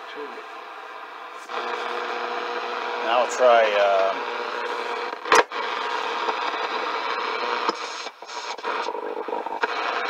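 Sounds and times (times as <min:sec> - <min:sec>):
radio static and hiss: 0:00.0 - 0:10.0.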